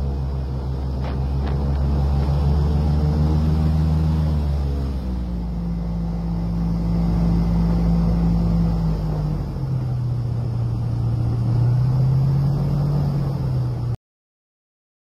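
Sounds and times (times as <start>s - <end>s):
airboat engine and propeller drone: 0.0s - 14.0s.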